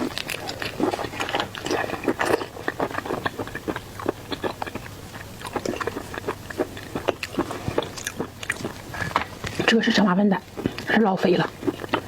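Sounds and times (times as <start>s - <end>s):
person chewing wetly: 0.0s - 12.0s.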